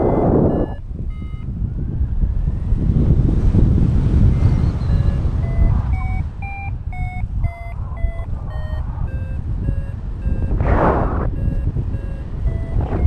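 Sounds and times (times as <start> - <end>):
variometer beeping: 0.0 - 3.2, 4.1 - 13.0
airflow rushing on microphone: 1.6 - 13.0.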